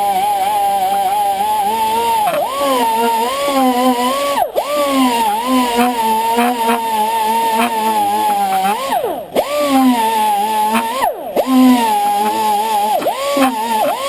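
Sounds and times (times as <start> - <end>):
pneumatic wire brush whining: 0.0 - 14.0.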